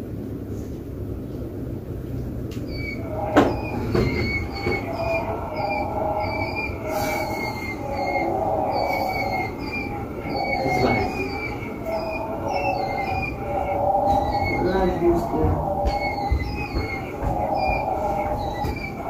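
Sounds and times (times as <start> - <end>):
ceiling fan rumble: 0.0 - 19.0
high metallic squeal: 2.7 - 19.0.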